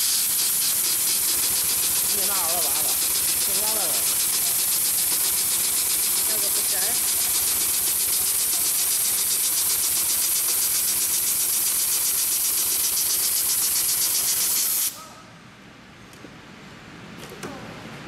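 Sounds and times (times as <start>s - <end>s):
sewing machine stitching: 0.0s - 14.8s.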